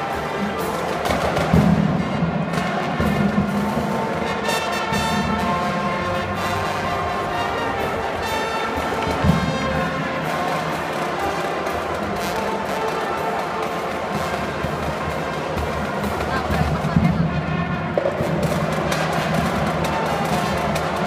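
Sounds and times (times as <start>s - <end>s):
brass notes: 0.0s - 21.0s
marching drums: 0.0s - 21.0s.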